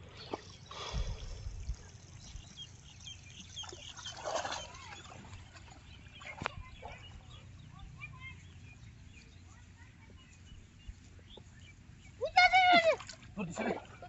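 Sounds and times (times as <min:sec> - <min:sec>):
feet wading through water: 0:00.0 - 0:09.6, 0:11.9 - 0:14.0
bird chirps: 0:00.0 - 0:12.2.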